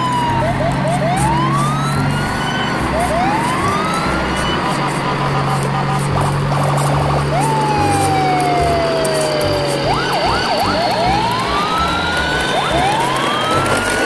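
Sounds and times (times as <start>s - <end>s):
electronic siren wailing: 0.0s - 14.0s.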